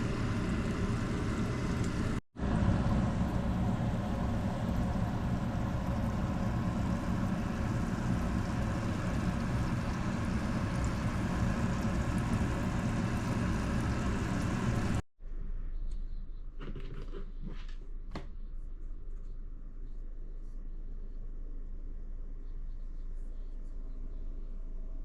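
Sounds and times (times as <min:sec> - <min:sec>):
machine drone with low hum: 0:00.0 - 0:16.9, 0:17.8 - 0:25.0.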